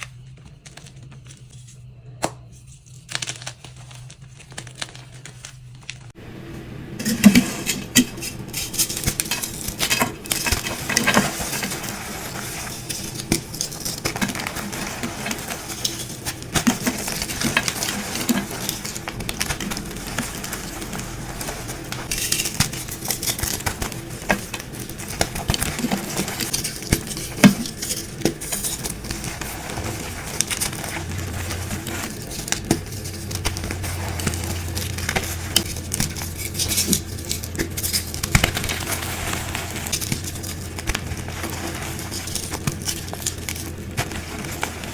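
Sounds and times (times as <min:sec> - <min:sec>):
chalk being crushed: 0:07.0 - 0:44.9.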